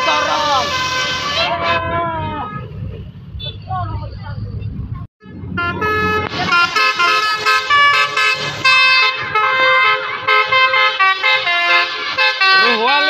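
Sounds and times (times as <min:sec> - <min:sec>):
multi-trumpet bus horn melody: 0:00.0 - 0:02.8, 0:05.2 - 0:13.0.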